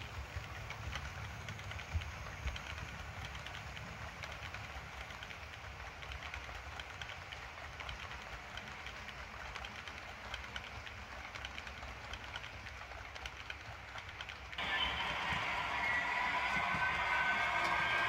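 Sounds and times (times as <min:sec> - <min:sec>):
model train wagons rolling: 0:00.0 - 0:18.0
wheels clicking over rail joints: 0:00.0 - 0:18.0.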